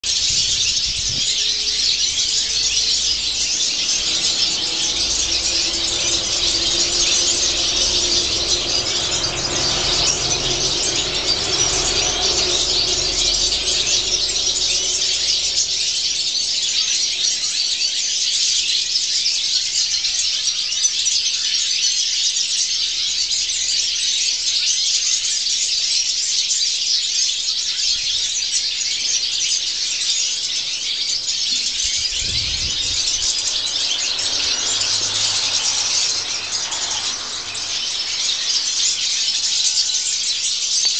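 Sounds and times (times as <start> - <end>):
flock of small birds chirping: 0.0 - 40.9.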